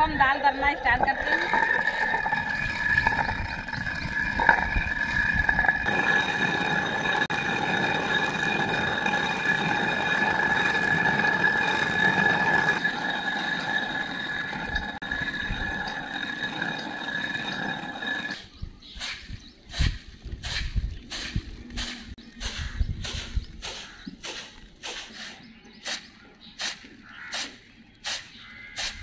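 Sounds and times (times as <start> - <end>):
stone quern grinding beans: 0.1 - 19.2, 19.8 - 29.0.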